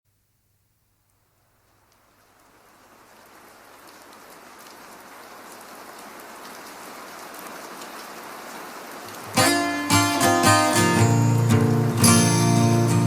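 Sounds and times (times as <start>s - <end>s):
steady rain falling: 0.1s - 13.0s
raindrops pattering: 1.1s - 13.0s.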